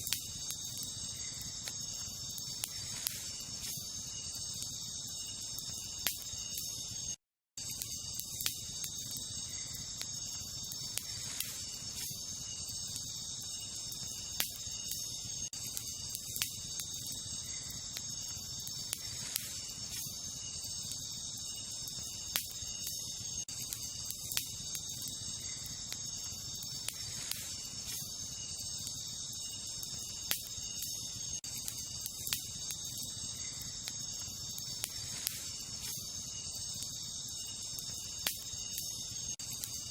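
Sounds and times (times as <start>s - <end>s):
campfire crackling and popping: 0.0s - 39.9s
night insects chorus: 0.0s - 39.9s.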